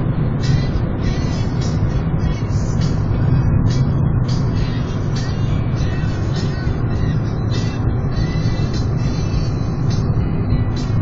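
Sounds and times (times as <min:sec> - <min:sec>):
car road and wind noise: 0:00.0 - 0:11.0.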